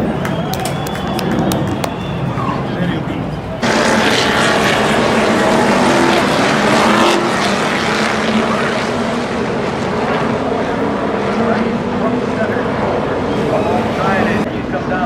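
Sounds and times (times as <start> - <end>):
race car engines roaring past: 0.0 - 15.0.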